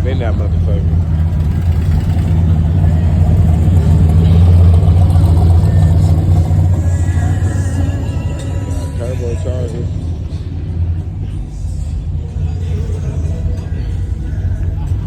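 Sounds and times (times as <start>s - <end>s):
car engine deep rumble: 0.0s - 15.0s.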